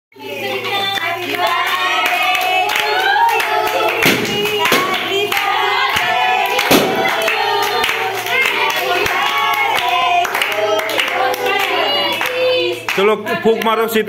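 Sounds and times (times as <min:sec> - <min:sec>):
group singing together: 0:00.2 - 0:14.0
hand claps: 0:01.0 - 0:13.7.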